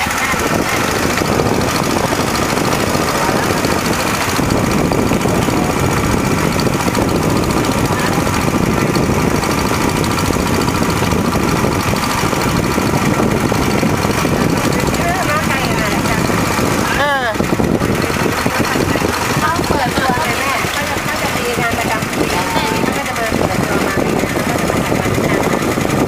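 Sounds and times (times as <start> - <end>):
boat motor running: 0.0 - 26.0.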